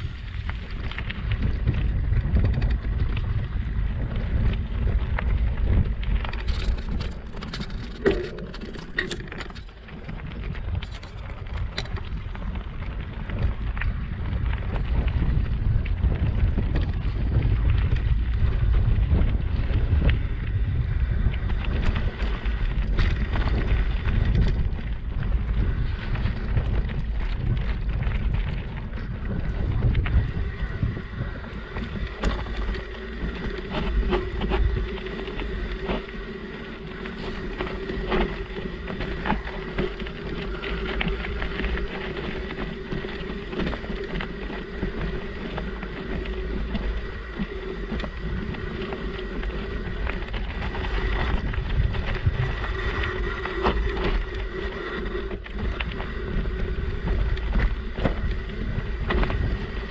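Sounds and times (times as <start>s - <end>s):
faint steady whine: 0.0s - 59.9s
wind buffeting microphone: 0.0s - 59.9s.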